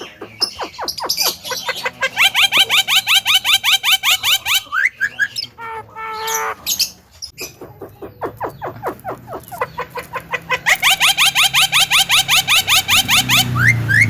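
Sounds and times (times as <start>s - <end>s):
myna quick rising chirps: 0.0s - 5.2s, 7.4s - 14.0s.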